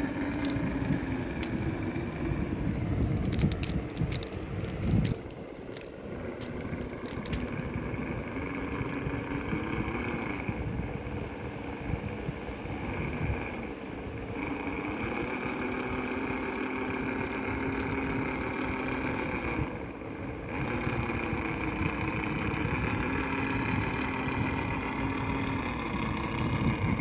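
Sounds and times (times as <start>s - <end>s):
electric motor and gear whining: 0.0s - 10.4s, 13.0s - 27.0s.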